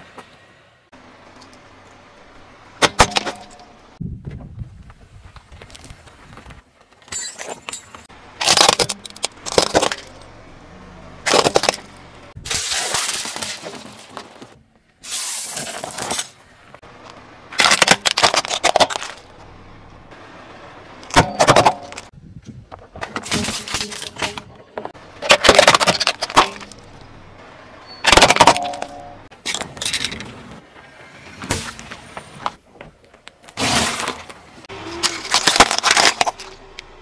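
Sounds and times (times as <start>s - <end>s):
car tyre crushing objects: 2.7s - 4.0s, 5.4s - 22.1s, 22.7s - 37.0s.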